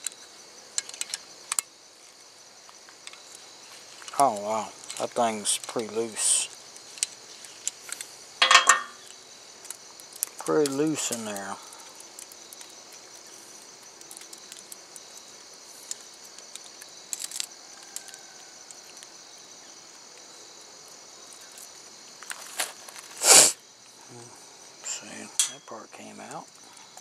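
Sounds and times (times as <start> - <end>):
insect chirring: 0.0 - 27.0.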